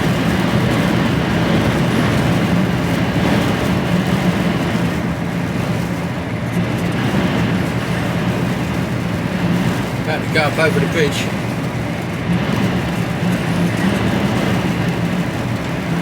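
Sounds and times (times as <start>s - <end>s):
lorry diesel engine droning: 0.0s - 16.0s
road and wind noise: 0.0s - 16.0s.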